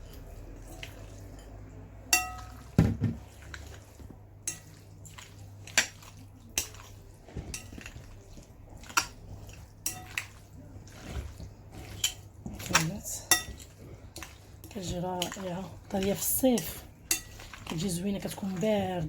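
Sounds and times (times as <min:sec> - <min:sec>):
spoon clinking against a dish: 0:00.1 - 0:02.8, 0:04.4 - 0:18.3.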